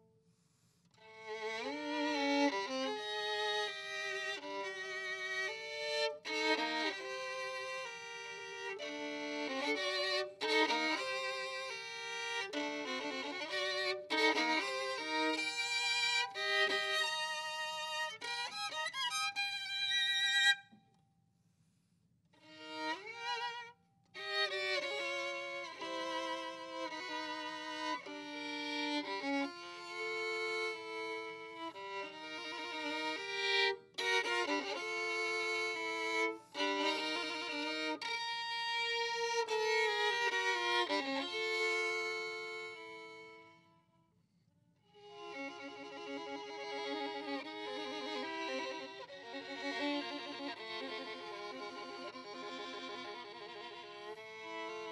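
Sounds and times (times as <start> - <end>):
solo violin melody: 1.0 - 20.8, 22.4 - 43.9, 44.9 - 54.9.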